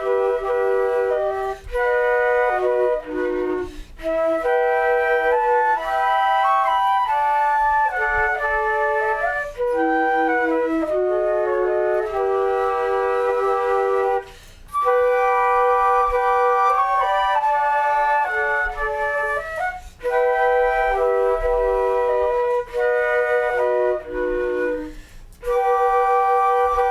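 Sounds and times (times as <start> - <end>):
flutes playing slow melody: 0.0 - 26.9.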